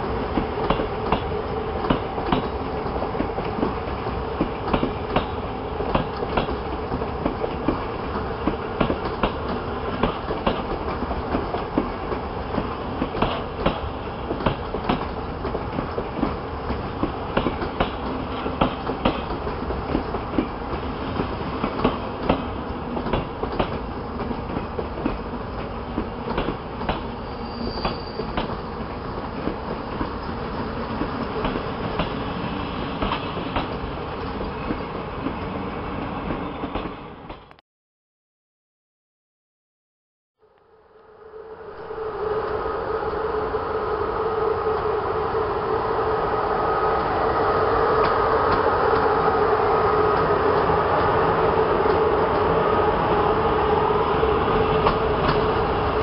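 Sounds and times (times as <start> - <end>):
train rumbling past: 0.0 - 37.5, 40.7 - 56.0.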